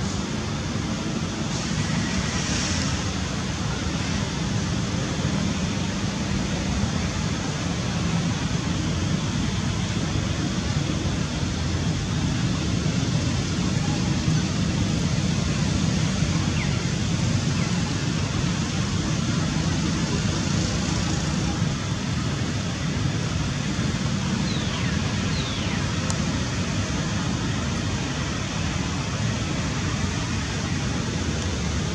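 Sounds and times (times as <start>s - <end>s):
low rumble with hiss: 0.0s - 31.9s.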